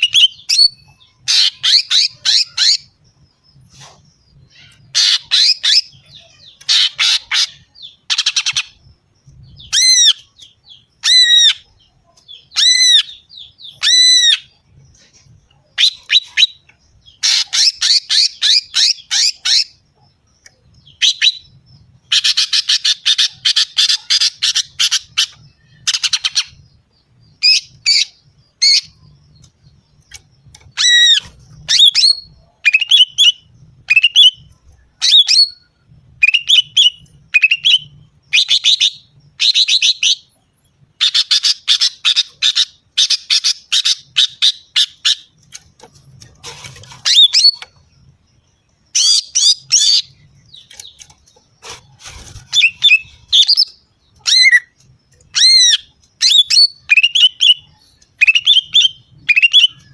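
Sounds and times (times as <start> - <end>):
bird chirping and chattering: 0.0 - 59.9.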